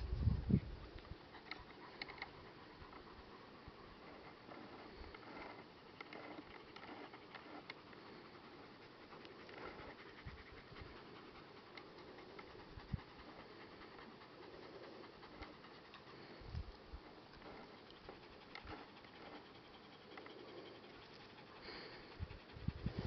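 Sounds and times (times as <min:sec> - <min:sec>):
dog panting: 0:00.1 - 0:23.0.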